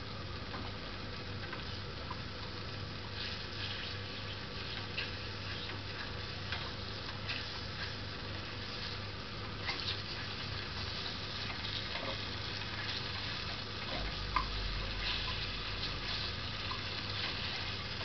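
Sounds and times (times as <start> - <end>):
soft sizzle: 0.0 - 18.0
whisk scraping a pan: 3.2 - 18.0.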